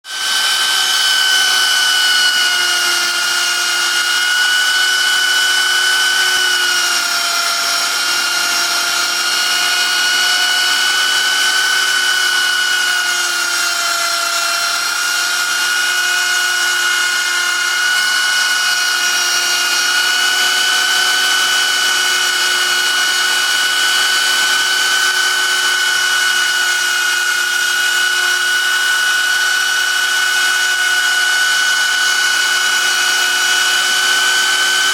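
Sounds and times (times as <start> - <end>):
router spindle motor whine: 0.0 - 34.9.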